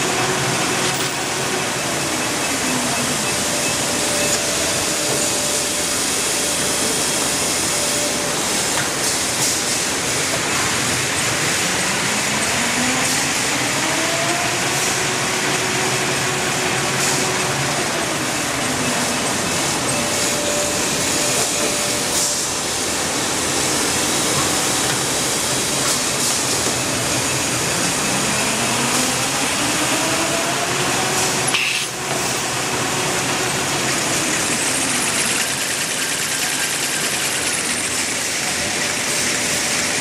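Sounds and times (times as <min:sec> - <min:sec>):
factory machinery running: 0:00.0 - 0:40.0.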